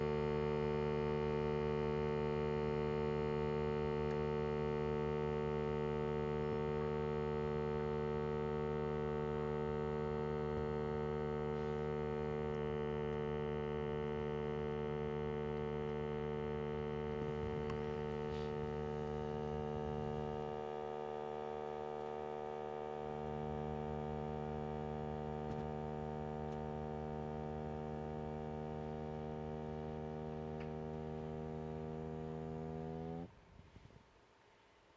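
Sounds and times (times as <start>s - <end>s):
humming tone with overtones: 0.0s - 34.0s.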